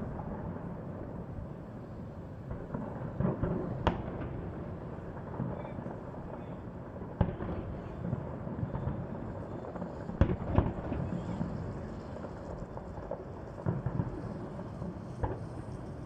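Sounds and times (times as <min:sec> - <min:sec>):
fireworks bangs and booms: 0:00.0 - 0:16.0
low rumble of distant fireworks: 0:00.0 - 0:16.0.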